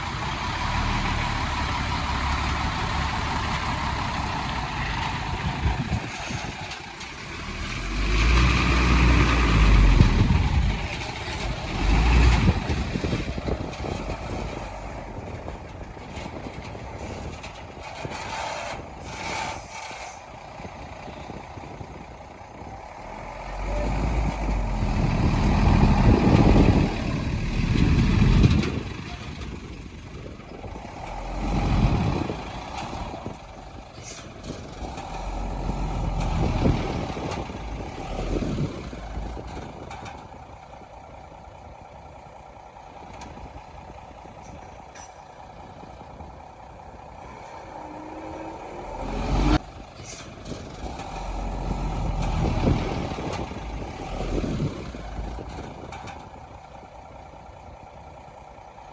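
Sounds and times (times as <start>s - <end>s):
diesel earthmoving machinery: 0.0s - 58.9s.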